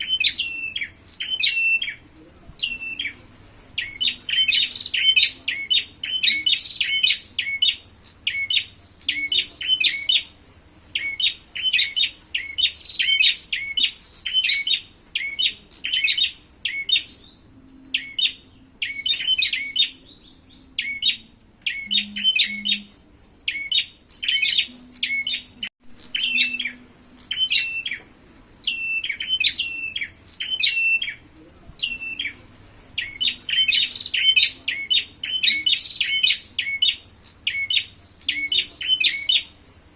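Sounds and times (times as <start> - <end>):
songbirds chirping rapidly: 0.0 - 39.9.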